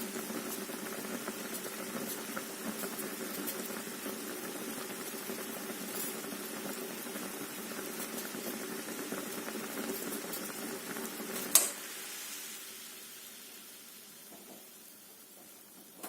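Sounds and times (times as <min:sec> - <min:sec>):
water boiling in a pot: 0:00.0 - 0:16.0.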